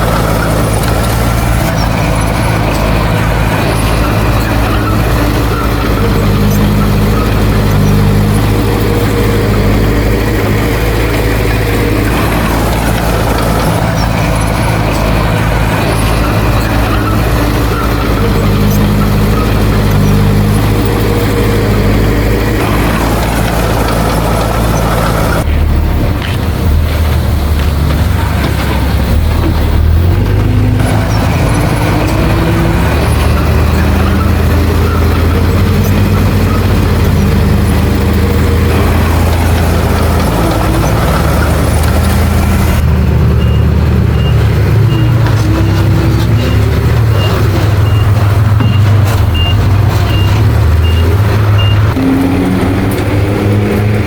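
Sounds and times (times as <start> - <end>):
reversing alarm beeping: 0.0 - 25.5, 30.0 - 54.0
heavy diesel engines running: 0.0 - 54.0.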